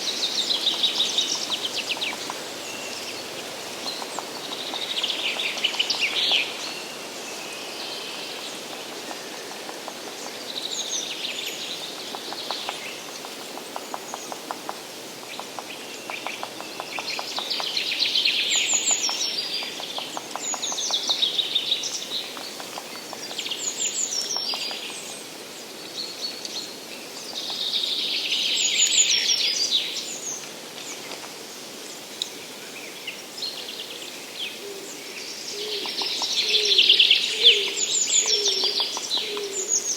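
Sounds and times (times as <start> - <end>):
soft steady hiss: 0.0 - 39.9
songbirds singing: 0.0 - 39.9.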